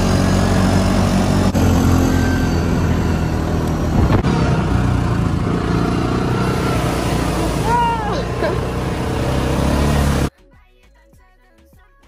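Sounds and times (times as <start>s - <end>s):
atv engine running: 0.0s - 10.3s.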